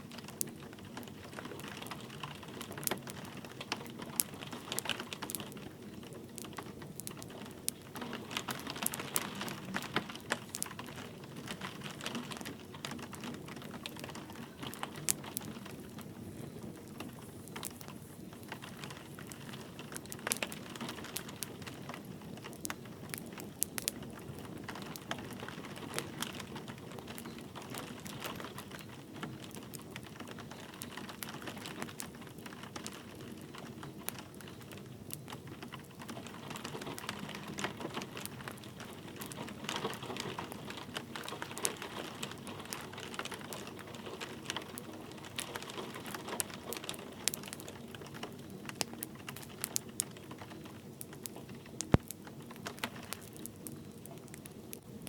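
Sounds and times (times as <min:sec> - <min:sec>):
light rain pattering: 0:00.0 - 0:55.0
wood fire crackling and popping: 0:00.0 - 0:55.0.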